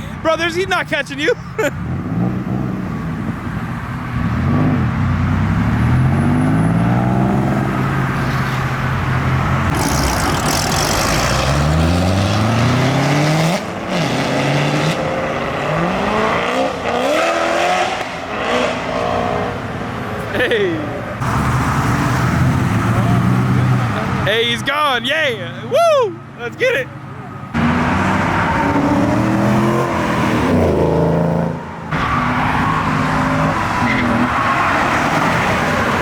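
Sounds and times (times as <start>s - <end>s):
vehicle engines accelerating hard: 0.0s - 24.7s, 27.0s - 36.0s.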